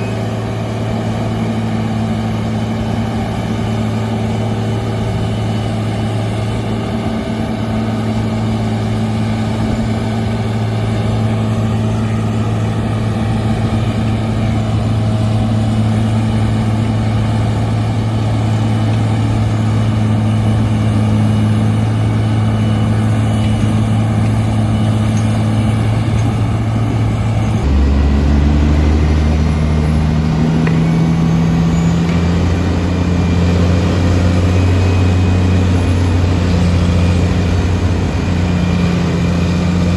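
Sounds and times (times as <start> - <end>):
heavy diesel engine running: 0.0 - 39.9
deeper engine note shifting pitch: 6.9 - 39.9.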